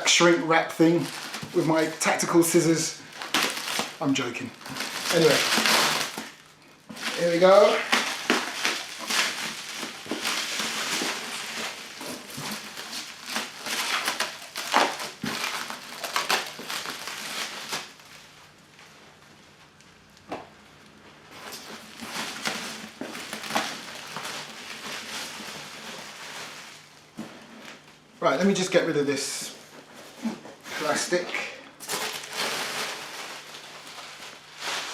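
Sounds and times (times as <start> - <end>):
plastic shrink wrap crinkling: 0.0 - 29.4, 30.0 - 34.9.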